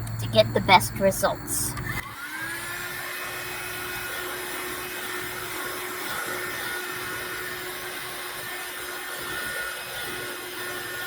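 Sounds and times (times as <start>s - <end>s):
handheld vacuum running: 2.0s - 11.0s.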